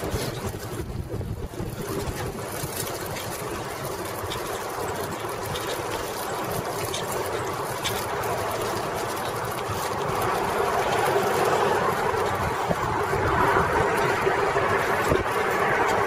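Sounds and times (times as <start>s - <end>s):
bicycle tyre noise: 0.0s - 16.0s.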